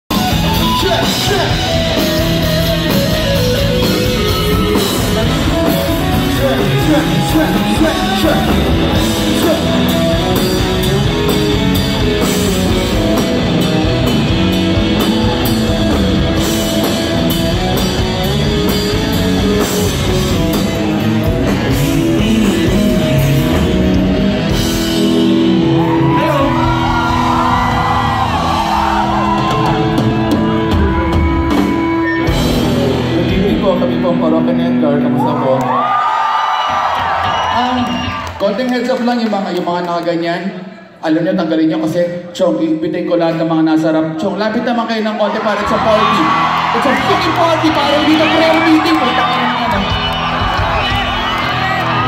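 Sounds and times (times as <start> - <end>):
drums: 0.0 - 38.9, 45.6 - 52.0
electric guitars: 0.1 - 38.3, 45.6 - 52.0.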